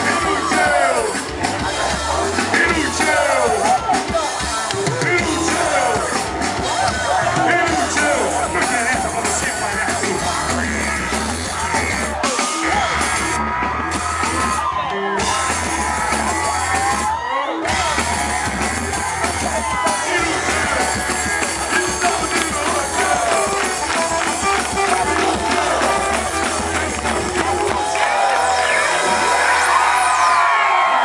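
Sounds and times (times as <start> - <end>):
crowd singing and shouting: 0.0 - 31.0
live rock band playing: 0.0 - 31.0.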